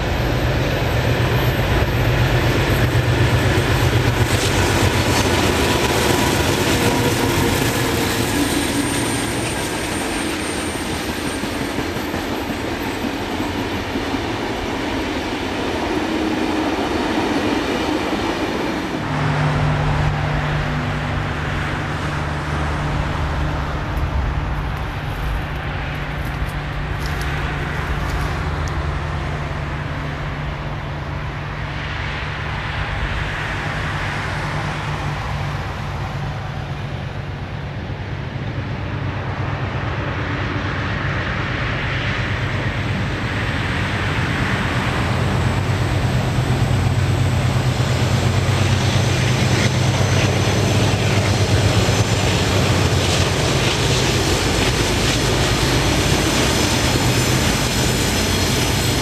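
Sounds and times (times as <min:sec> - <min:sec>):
diesel locomotives droning: 0:00.0 - 0:59.0.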